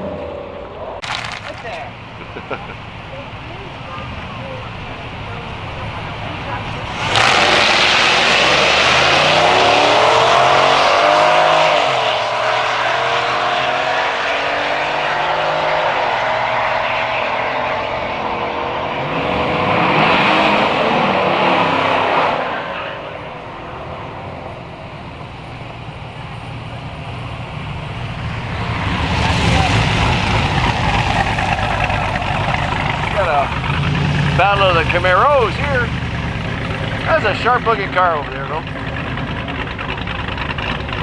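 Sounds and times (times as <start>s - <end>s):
drag race car engines revving: 0.0s - 41.0s
passing engine roar: 0.0s - 41.0s.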